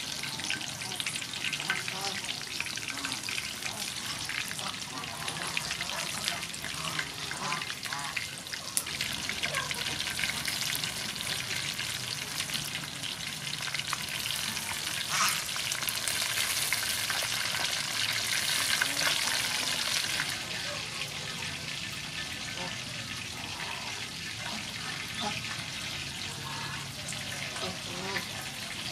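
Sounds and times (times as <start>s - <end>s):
chicken wings deep-frying in oil: 0.0s - 28.9s.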